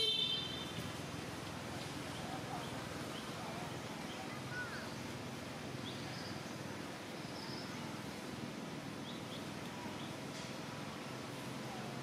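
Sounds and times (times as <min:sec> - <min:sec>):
steady forest hiss: 0:00.0 - 0:12.0.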